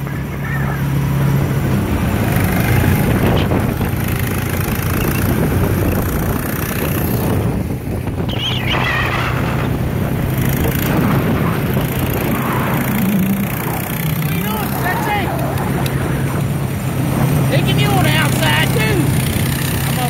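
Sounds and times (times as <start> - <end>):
small engine running: 0.0 - 20.0
wind noise on microphone: 1.2 - 19.9.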